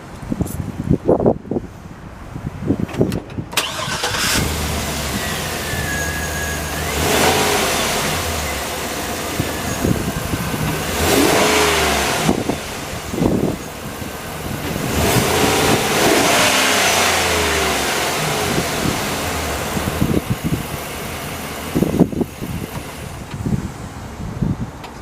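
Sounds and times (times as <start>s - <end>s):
truck engine revving and idling: 3.6s - 23.7s.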